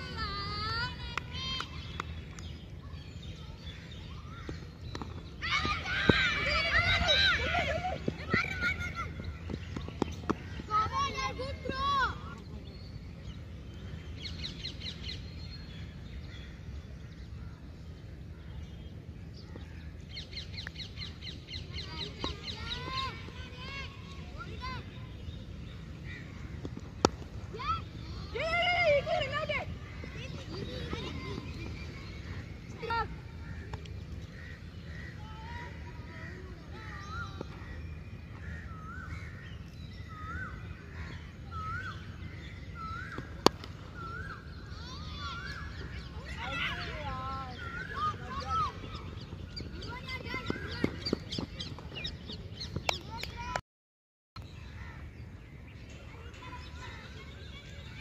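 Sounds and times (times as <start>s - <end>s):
low background hum: 0.0s - 53.5s
birds chirping: 0.0s - 53.6s
outdoor background noise: 0.0s - 53.6s, 54.4s - 58.0s.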